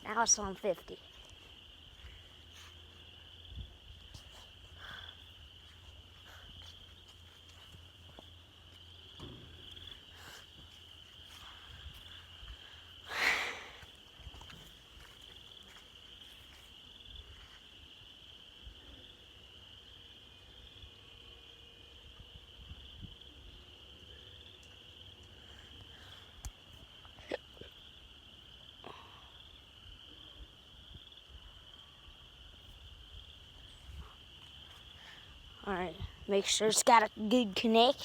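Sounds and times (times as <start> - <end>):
insects trilling: 0.0 - 38.0.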